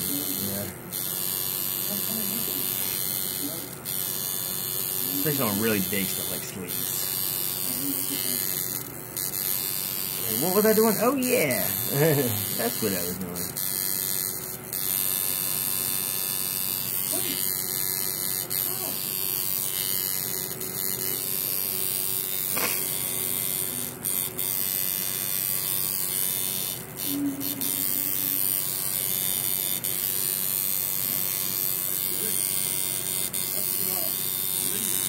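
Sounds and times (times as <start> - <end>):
tattoo machine humming: 0.0 - 35.0.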